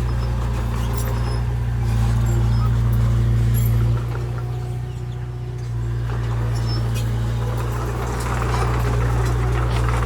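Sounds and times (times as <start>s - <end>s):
large diesel engine running: 0.0s - 10.0s.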